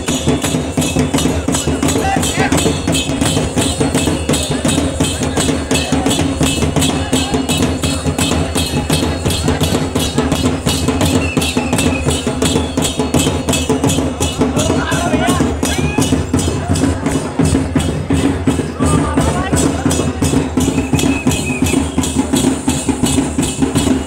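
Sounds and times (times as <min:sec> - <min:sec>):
drum beat: 0:00.0 - 0:24.0.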